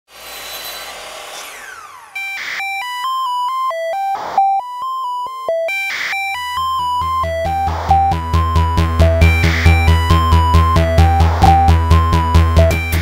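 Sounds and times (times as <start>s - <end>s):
synth melody: 1.9s - 13.0s.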